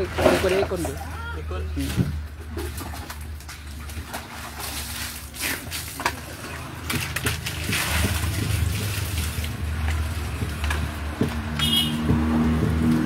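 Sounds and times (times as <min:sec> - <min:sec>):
water splashing onto concrete: 0:00.0 - 0:13.0.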